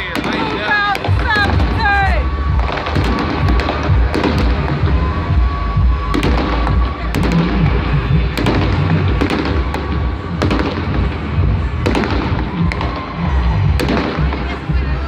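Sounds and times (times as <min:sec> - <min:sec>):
fireworks bangs: 0:00.0 - 0:15.0
fireworks crackling: 0:00.0 - 0:15.0
music playing: 0:00.0 - 0:15.0
low rumble: 0:00.1 - 0:15.0.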